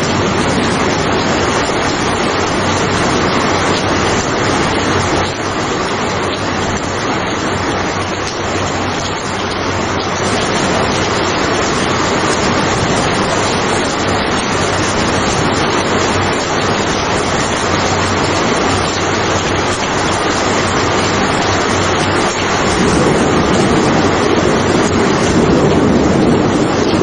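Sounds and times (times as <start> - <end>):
rain falling steadily: 0.0 - 27.0.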